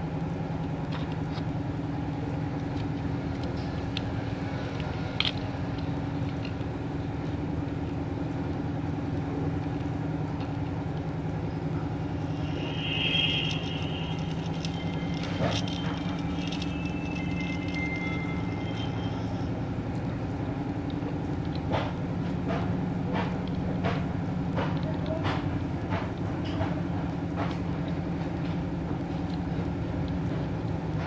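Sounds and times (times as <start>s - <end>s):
low motor hum: 0.0s - 31.0s.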